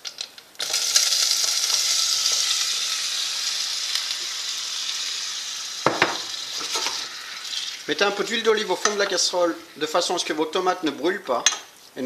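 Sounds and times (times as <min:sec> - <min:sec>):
tomatoes sizzling in hot oil: 0:00.0 - 0:11.6.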